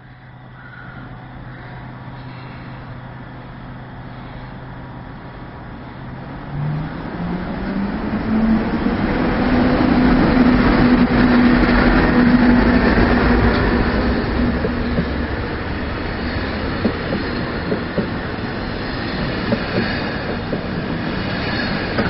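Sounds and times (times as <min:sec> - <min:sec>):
electric train motor whine: 0:00.0 - 0:22.0.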